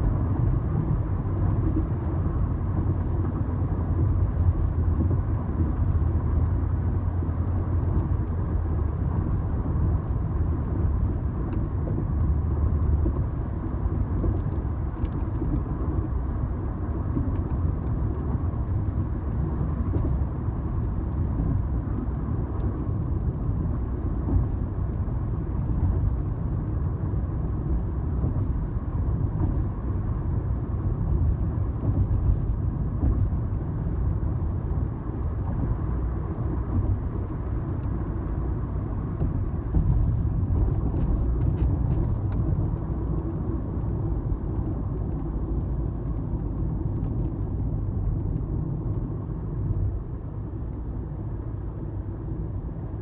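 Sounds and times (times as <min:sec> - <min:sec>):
car road noise inside cabin: 0:00.0 - 0:53.0.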